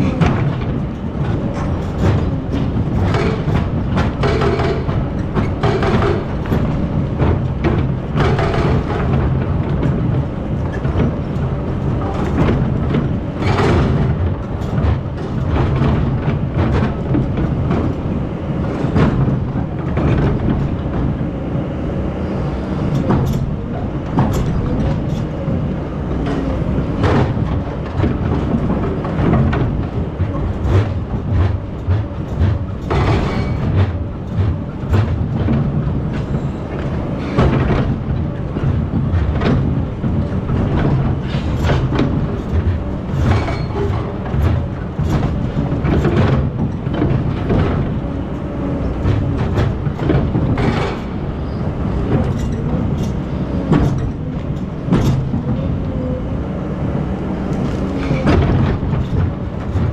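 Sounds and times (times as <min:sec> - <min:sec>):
metallic clanks and knocks: 0:00.0 - 0:21.4, 0:22.8 - 0:56.2, 0:57.4 - 0:59.9
excavator diesel engine running: 0:00.0 - 0:59.9.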